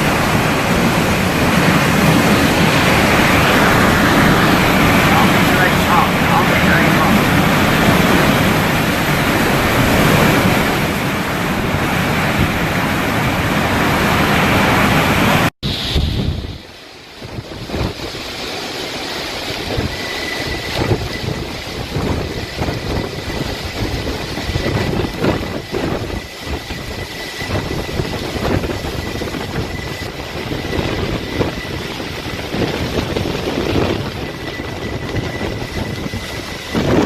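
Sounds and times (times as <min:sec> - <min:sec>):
strong wind gusts: 0:00.0 - 0:37.0.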